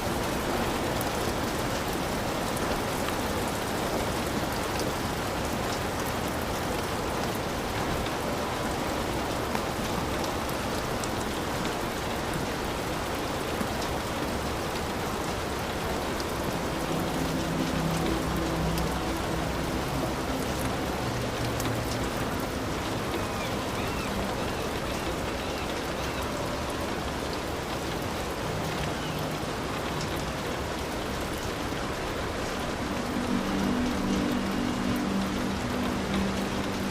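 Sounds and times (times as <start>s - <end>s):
heavy rain: 0.0s - 36.9s.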